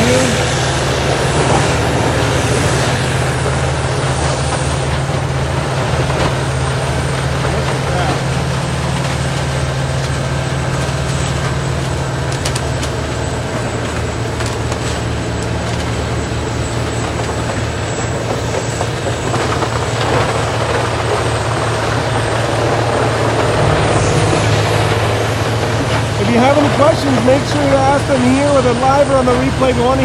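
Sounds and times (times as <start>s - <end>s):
diesel engine drone: 0.0s - 30.0s
wood grinder grinding: 0.0s - 30.0s.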